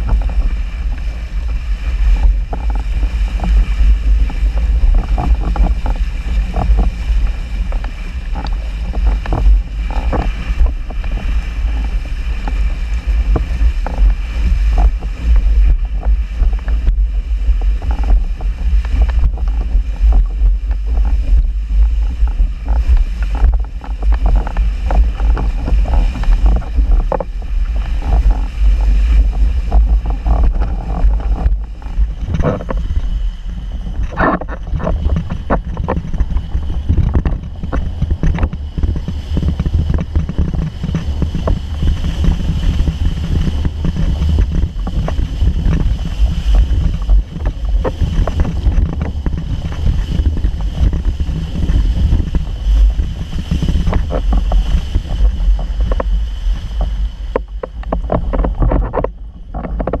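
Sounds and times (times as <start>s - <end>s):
water rushing under board: 0.0s - 60.0s
wind buffeting microphone: 0.0s - 60.0s.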